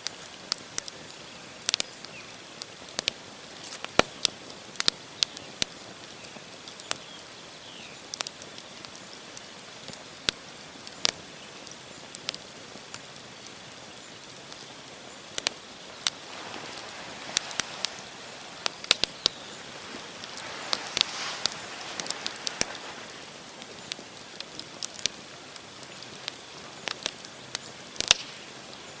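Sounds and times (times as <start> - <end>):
campfire crackling: 0.0 - 29.0
hiss of flame: 0.0 - 29.0.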